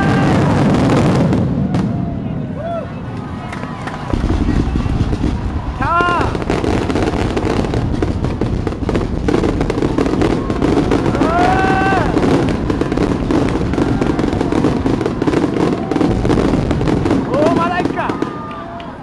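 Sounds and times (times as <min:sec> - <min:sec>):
fireworks crackling and bursting: 0:00.0 - 0:19.0.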